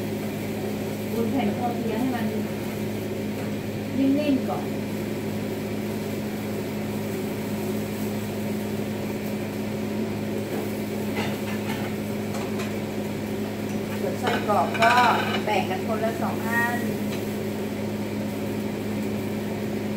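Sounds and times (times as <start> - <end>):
kitchen vent fan humming: 0.0 - 19.9.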